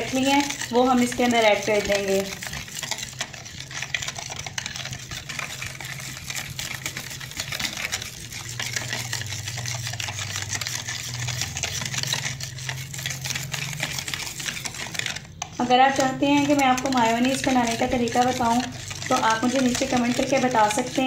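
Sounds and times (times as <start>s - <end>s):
whisk clicking against plastic bowl: 0.0s - 21.0s.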